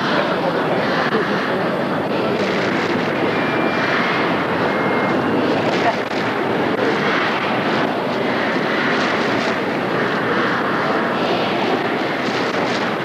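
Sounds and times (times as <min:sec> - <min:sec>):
stadium crowd din: 0:00.0 - 0:13.0.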